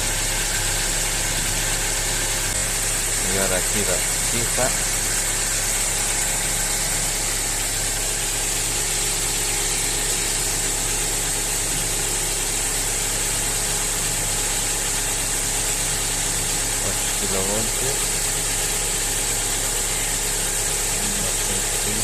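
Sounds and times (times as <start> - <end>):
petrol engine idling: 0.0 - 22.0.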